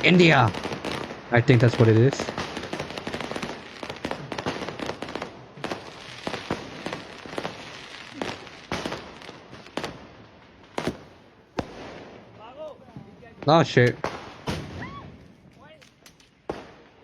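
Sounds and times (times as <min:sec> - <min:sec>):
firecracker bangs: 0:00.0 - 0:10.0, 0:10.7 - 0:15.2, 0:16.4 - 0:17.0
fireworks crackling: 0:00.0 - 0:17.0.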